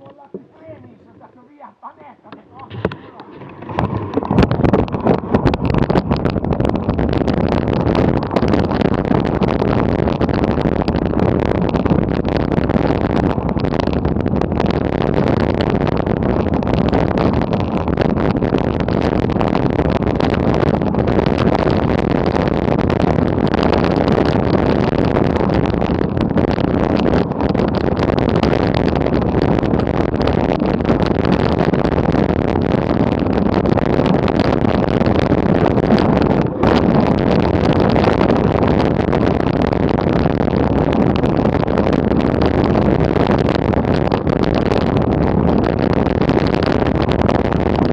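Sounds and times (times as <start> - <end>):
wind on microphone: 0.0 - 47.9
bike clattering over bumps: 2.6 - 47.9.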